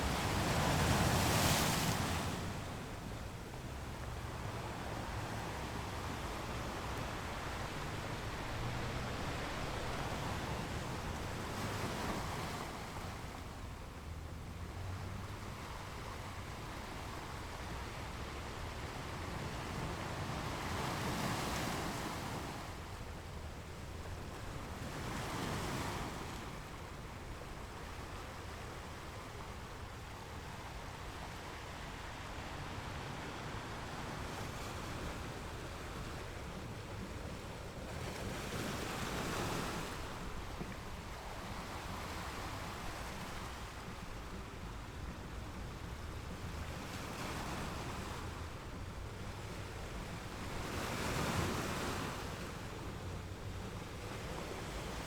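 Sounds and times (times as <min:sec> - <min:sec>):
ocean waves breaking: 0:00.0 - 0:23.0, 0:28.4 - 0:55.0.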